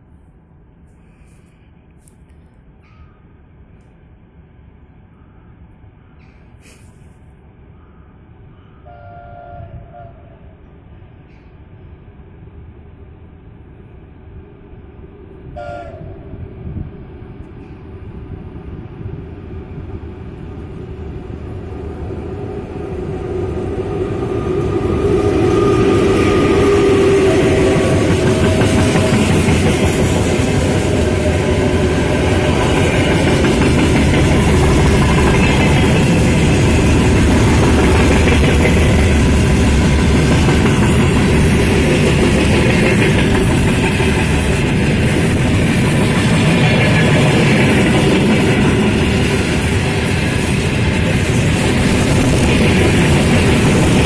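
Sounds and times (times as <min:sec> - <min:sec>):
freight wagons wheel-on-rail noise: 0:00.0 - 0:54.0
electric locomotive hum: 0:02.0 - 0:54.0.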